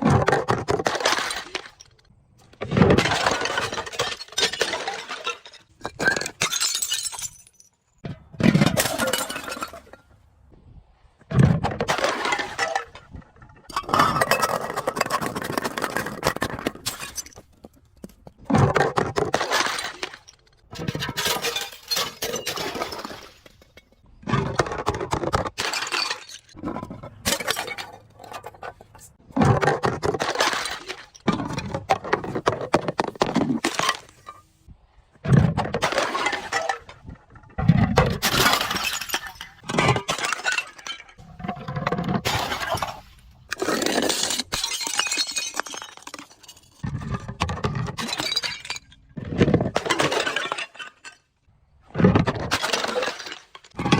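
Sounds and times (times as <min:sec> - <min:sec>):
glass bottles crushed and shattering: 0:00.0 - 0:10.1, 0:11.5 - 0:17.4, 0:18.5 - 0:34.4, 0:35.3 - 0:51.4, 0:52.0 - 0:53.9.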